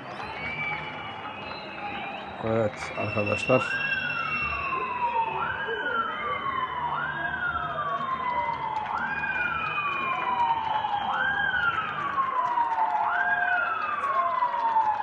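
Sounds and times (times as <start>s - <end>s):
higher gliding siren tone: 0.0s - 12.9s
siren wailing: 0.0s - 15.0s.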